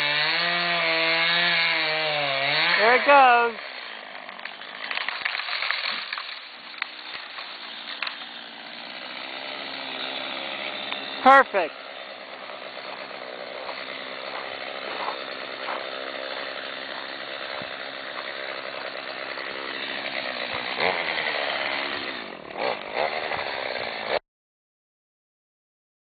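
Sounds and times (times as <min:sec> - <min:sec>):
chainsaw engine revving: 0:00.0 - 0:24.2.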